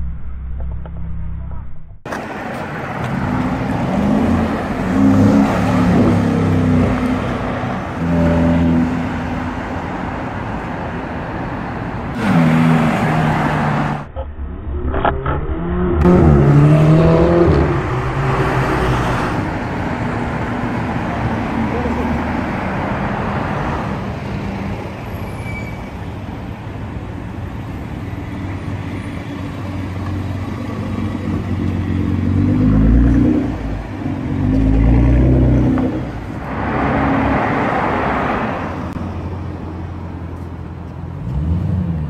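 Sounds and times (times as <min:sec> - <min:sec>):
traffic noise: 0:00.0 - 0:14.3, 0:15.0 - 0:42.0
car engines revving: 0:02.0 - 0:14.2, 0:14.9 - 0:42.0.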